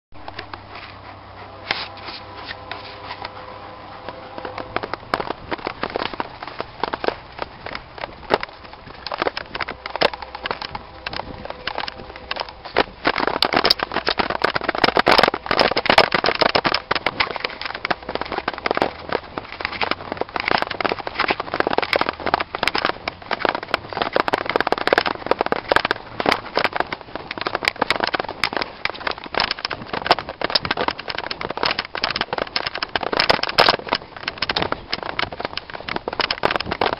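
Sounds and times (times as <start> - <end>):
footsteps on dry leaves: 1.6 - 36.8
handheld camera rubbing and knocks: 4.0 - 36.9.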